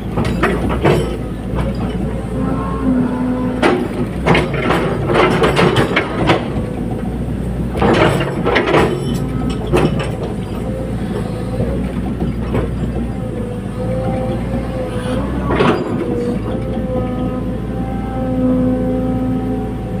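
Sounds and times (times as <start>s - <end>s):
metallic clanking and rattling: 0.0s - 14.6s, 15.3s - 17.2s
excavator diesel engine running: 0.0s - 20.0s.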